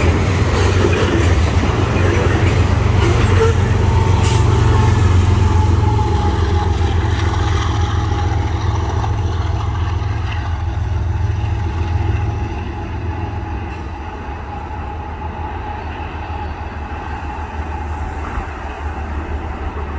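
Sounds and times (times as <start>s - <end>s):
freight train rumble: 0.0s - 19.9s.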